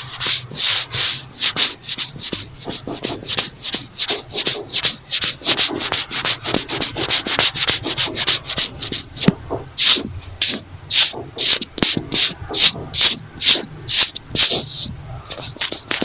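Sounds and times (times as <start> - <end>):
scratching on notebook cover: 0.0 - 16.0.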